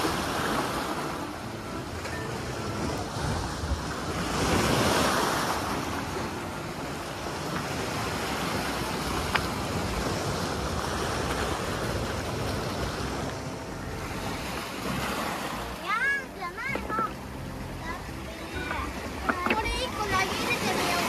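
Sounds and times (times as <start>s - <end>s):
waves washing over pebbles: 0.0s - 21.0s.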